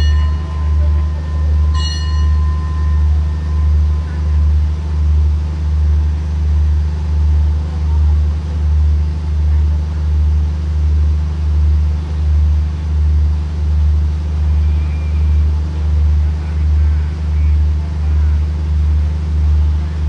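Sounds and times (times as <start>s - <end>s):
diesel train engine idling: 0.0s - 20.0s.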